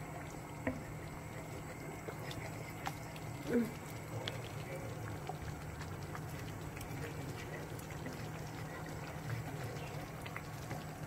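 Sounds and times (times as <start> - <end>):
thick porridge bubbling and popping: 0.0 - 11.0.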